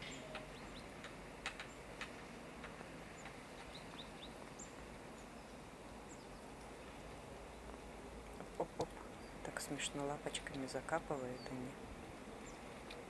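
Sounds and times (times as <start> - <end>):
small birds chirping: 0.0 - 7.8, 8.4 - 13.0
faint outdoor background noise: 0.0 - 13.0.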